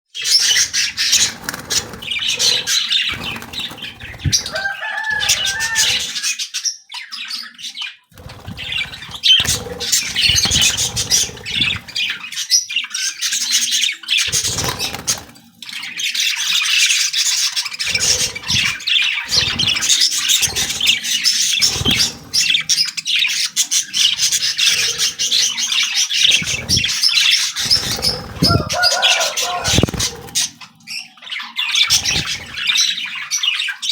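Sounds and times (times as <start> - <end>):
lovebirds chirping: 0.2 - 33.9.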